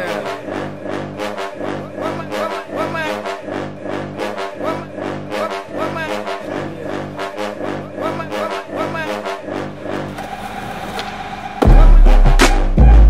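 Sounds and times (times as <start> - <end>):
brass-heavy music with beat: 0.0 - 13.0.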